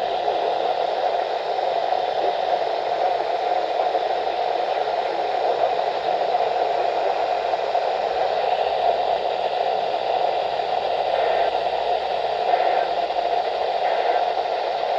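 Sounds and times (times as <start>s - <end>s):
radio static hiss: 0.0s - 14.9s.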